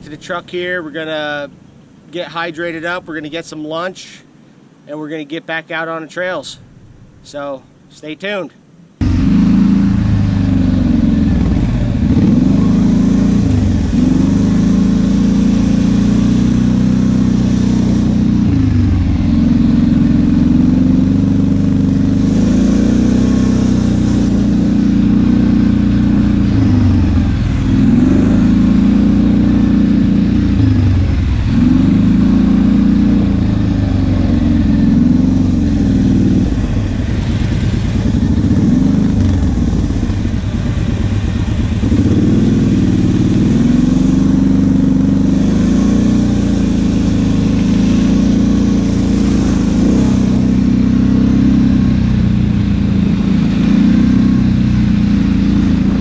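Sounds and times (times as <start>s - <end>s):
atv engine revving: 9.0s - 56.0s.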